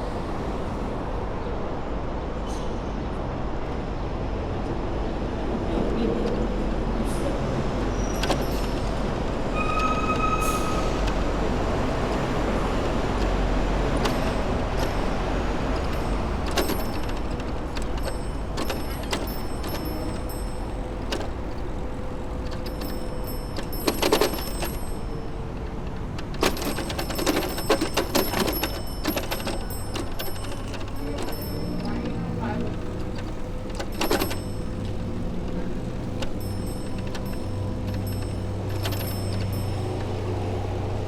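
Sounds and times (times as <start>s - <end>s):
city traffic rumble: 0.0s - 41.0s
rattling clicks: 7.7s - 41.0s.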